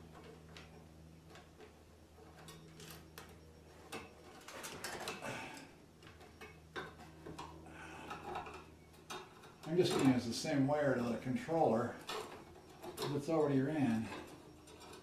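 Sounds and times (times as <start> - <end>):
steady low hum: 0.0 - 15.0
wires clicking and rustling: 0.0 - 15.0.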